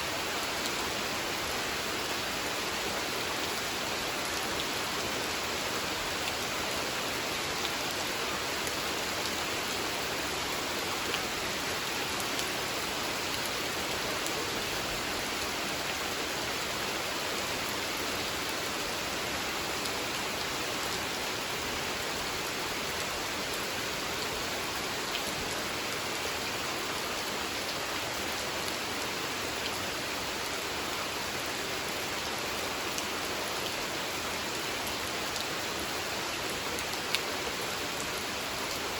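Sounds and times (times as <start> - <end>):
rain falling on water: 0.0 - 38.9.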